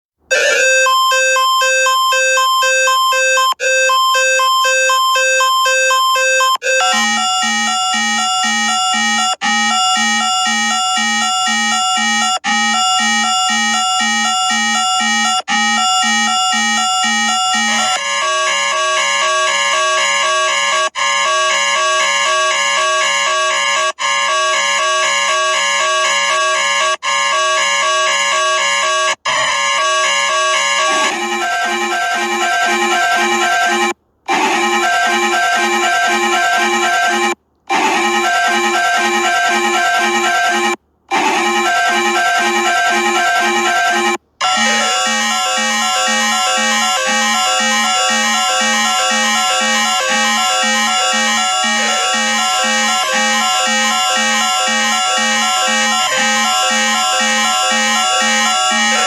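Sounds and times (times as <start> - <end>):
emergency alert alarm tone: 0.3 - 59.0.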